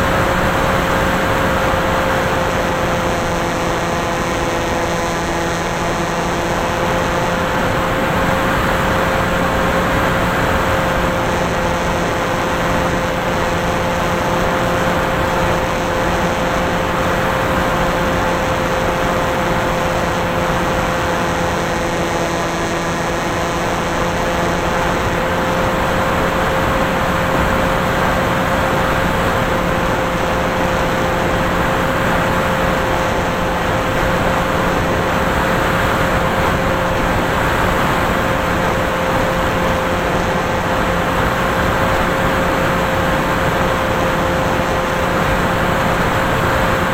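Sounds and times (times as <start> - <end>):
electric motor and propeller whine: 0.0 - 46.9.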